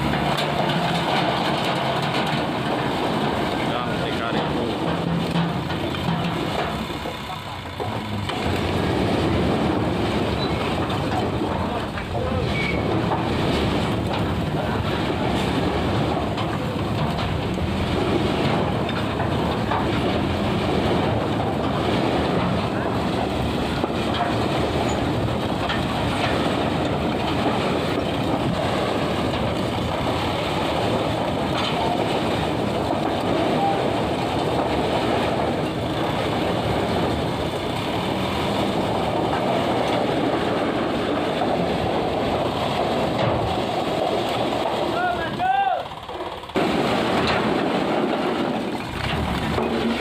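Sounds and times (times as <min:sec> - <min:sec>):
truck body rattling: 0:00.0 - 0:50.0
truck engine drone: 0:00.0 - 0:50.0.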